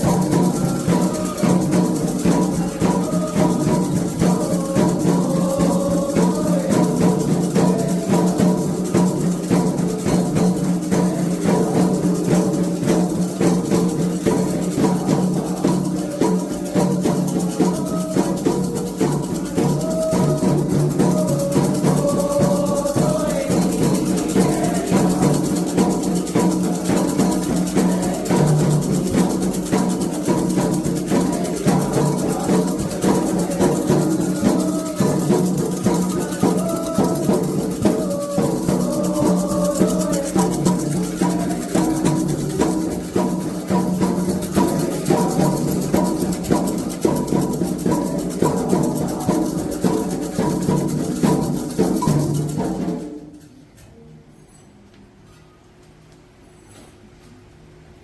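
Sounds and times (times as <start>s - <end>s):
hand drums drumming: 0.0s - 53.3s
rattle shaking: 0.0s - 53.5s.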